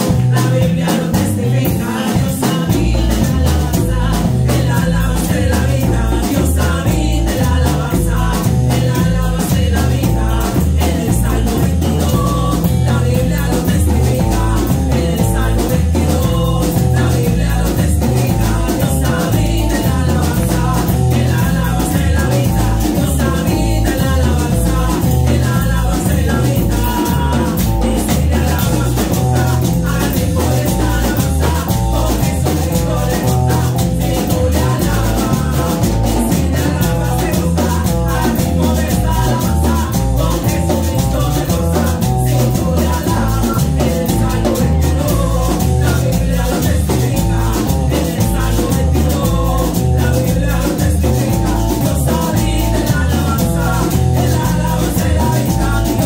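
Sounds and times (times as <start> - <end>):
drum kit beat: 0.0 - 56.0
electric guitar: 0.0 - 56.0
women singing: 0.0 - 56.0.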